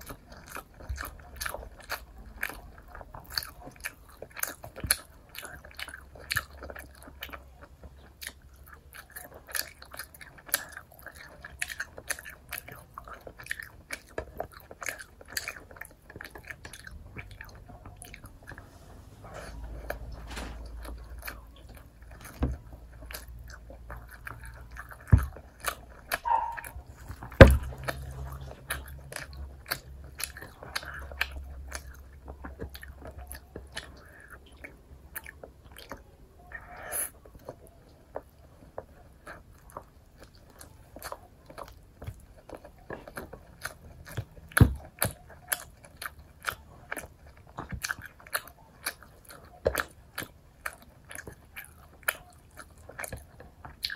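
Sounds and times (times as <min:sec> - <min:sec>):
wet chewing: 0:00.0 - 0:53.9.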